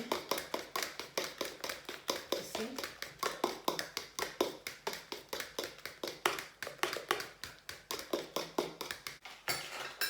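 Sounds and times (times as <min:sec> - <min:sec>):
fork beating batter in bowl: 0:00.0 - 0:10.0.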